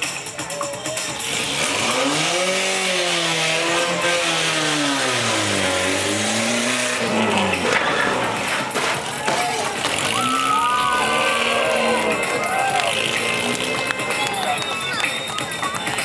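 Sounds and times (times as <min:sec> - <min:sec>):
monster truck engine revving: 0:01.0 - 0:15.7.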